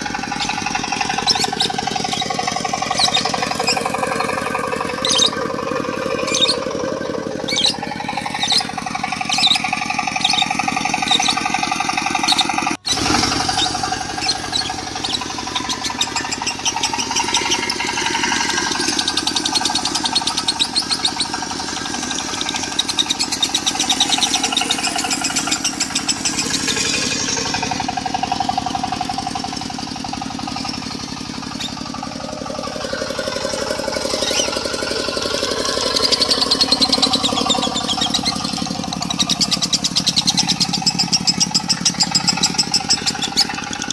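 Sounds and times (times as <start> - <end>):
bird chattering song: 0.0 - 43.9
diesel engine running: 0.0 - 43.9.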